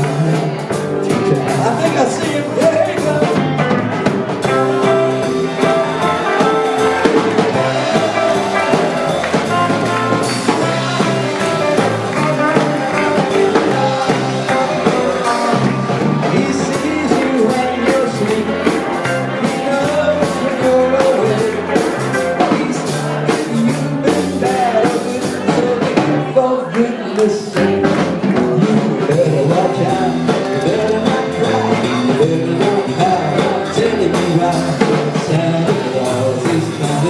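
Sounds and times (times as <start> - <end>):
person singing: 0.0 - 37.0
rock guitar: 0.0 - 37.0
steady drum beat: 0.0 - 37.0.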